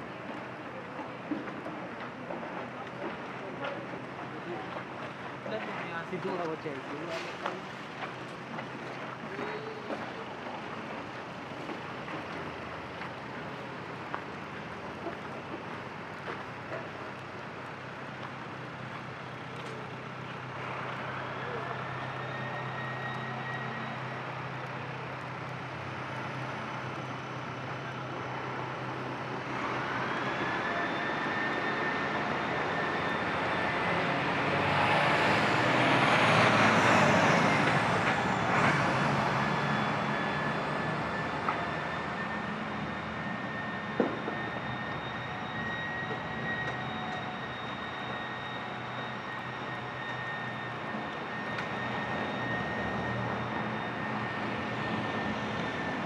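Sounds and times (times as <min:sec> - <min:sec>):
tram passing: 0:00.0 - 0:56.0.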